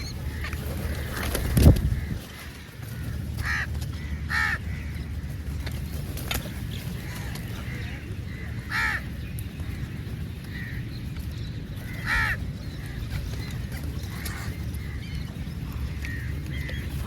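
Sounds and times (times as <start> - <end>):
steady low rumble: 0.0 - 17.0
crows cawing: 0.2 - 5.5, 7.0 - 11.0, 11.8 - 13.4, 14.1 - 17.0.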